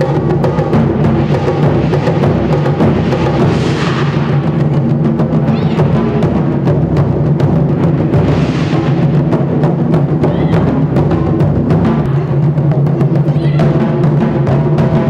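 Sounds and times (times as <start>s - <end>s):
music with rapid drumbeat: 0.0s - 15.0s.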